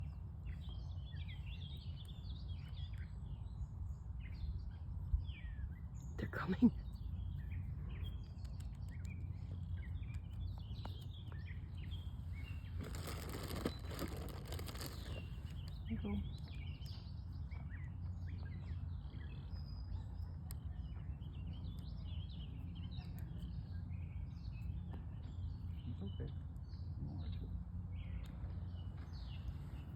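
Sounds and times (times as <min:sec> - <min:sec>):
small birds chirping: 0:00.0 - 0:29.9
steady low rumble: 0:00.0 - 0:29.9.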